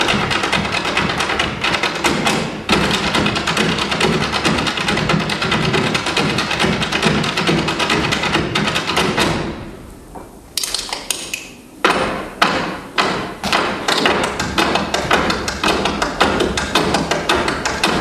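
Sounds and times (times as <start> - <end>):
loud foot stamps: 0.0 - 10.3, 11.8 - 18.0
hard shoes tapping on stage: 0.0 - 10.9, 11.8 - 18.0.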